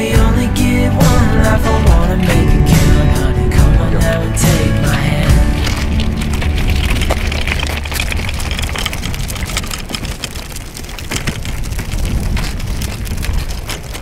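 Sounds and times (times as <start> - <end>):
wagon wheels rolling on sand: 0.0 - 14.0
crunching footsteps: 1.0 - 14.0.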